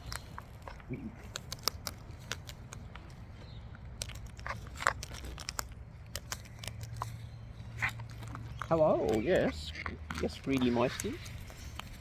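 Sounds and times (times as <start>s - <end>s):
parrots cracking seed: 0.0s - 12.0s.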